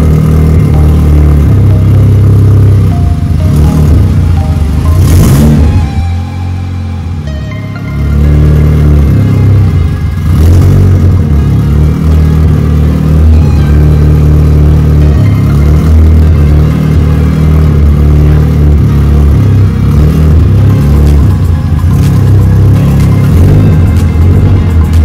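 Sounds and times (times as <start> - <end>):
music with heavy bass line: 0.0 - 25.0.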